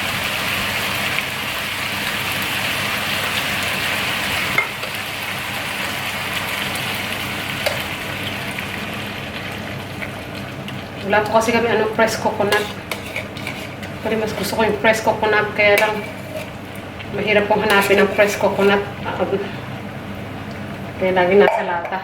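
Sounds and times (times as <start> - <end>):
coconut milk sizzling in pan: 0.0 - 19.1.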